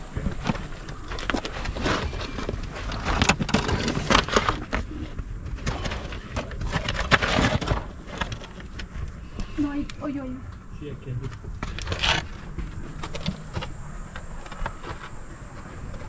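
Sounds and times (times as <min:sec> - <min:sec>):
person crawling on rock and dirt: 0:00.0 - 0:10.2, 0:11.3 - 0:16.0.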